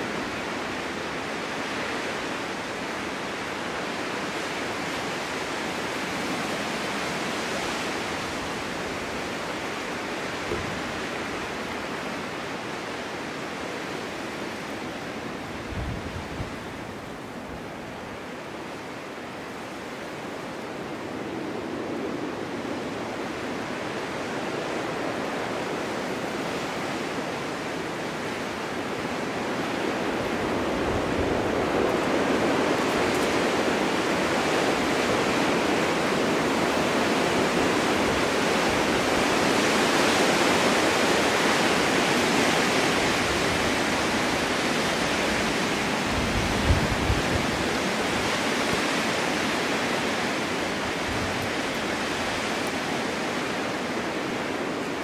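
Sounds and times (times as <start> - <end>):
wind blowing in gusts: 0.0 - 55.0.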